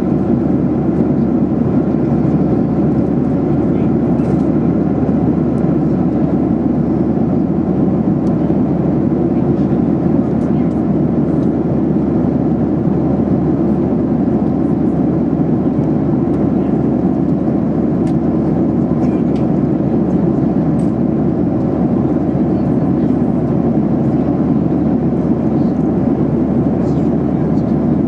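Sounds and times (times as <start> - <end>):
airplane cabin roar: 0.0 - 28.0.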